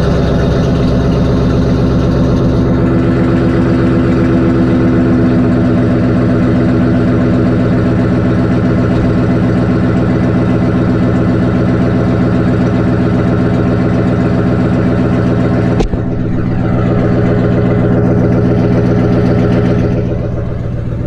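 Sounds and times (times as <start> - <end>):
car engine idling: 0.0 - 21.0
engine knock: 0.0 - 21.0.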